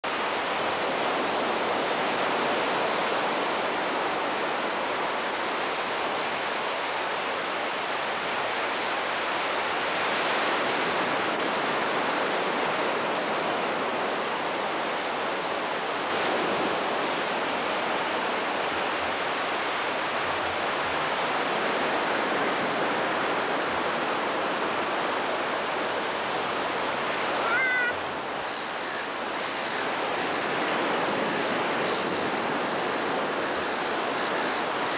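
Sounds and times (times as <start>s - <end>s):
waves breaking on beach: 0.0s - 34.9s.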